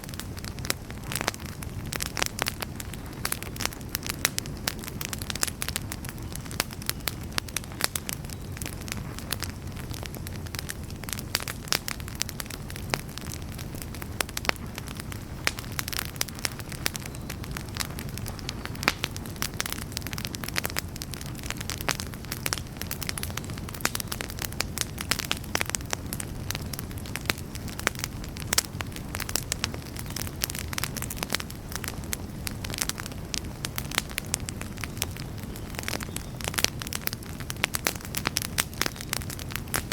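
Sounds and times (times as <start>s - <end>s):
campfire rumble: 0.0s - 39.9s
fire crackles and pops: 0.0s - 39.9s.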